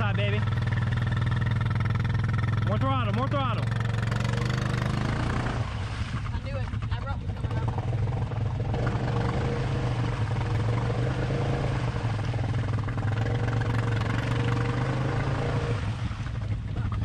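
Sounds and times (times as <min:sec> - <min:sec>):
atv engine running hard: 0:00.0 - 0:17.0.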